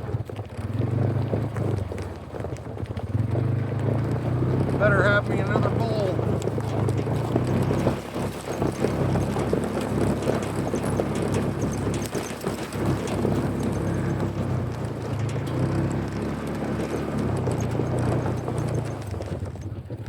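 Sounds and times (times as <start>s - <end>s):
clicks and rattles: 0.0s - 20.0s
vehicle engine running: 0.0s - 20.0s.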